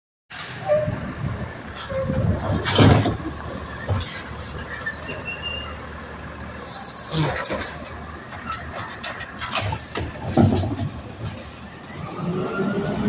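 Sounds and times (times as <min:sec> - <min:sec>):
garbage truck engine rumble: 0:00.3 - 0:13.0.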